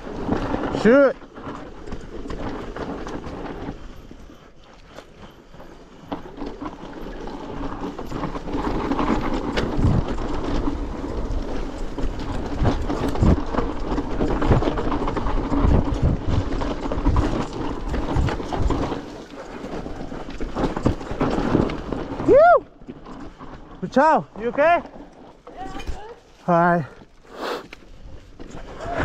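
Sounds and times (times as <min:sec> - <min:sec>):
bike suspension thuds and rattles: 0:00.0 - 0:04.2, 0:06.0 - 0:26.3
bike tyres rolling over dirt: 0:00.0 - 0:29.0.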